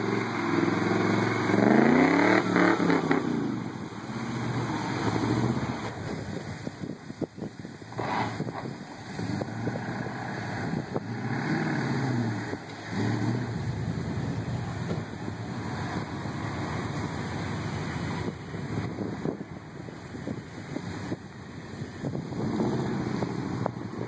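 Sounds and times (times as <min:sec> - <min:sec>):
truck engine revving: 0:00.0 - 0:06.4, 0:07.9 - 0:19.6, 0:22.0 - 0:24.0
wind buffeting microphone: 0:02.4 - 0:24.0.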